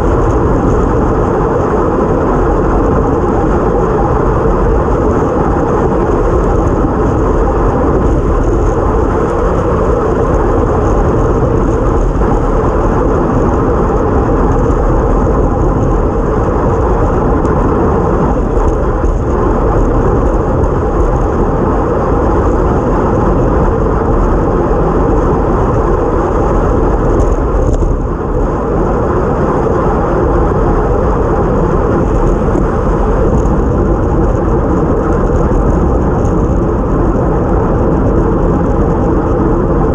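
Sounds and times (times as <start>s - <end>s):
tyres humming on wet road: 0.0s - 39.9s
wind rushing over microphone: 0.0s - 39.9s.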